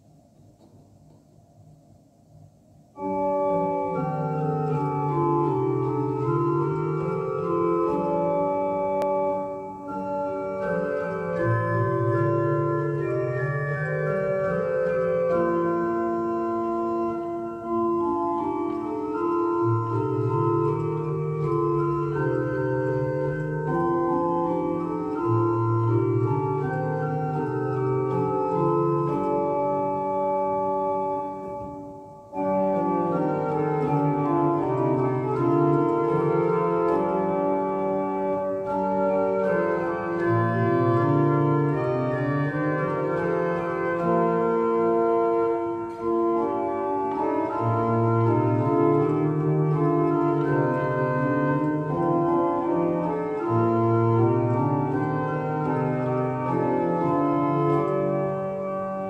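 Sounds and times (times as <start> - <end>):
organ playing a hymn: 2.8 - 59.0.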